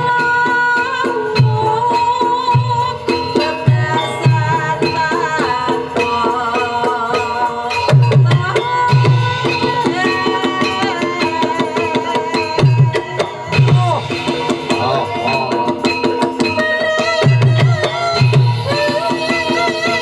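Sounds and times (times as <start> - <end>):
hand drum rhythm: 0.0 - 20.0.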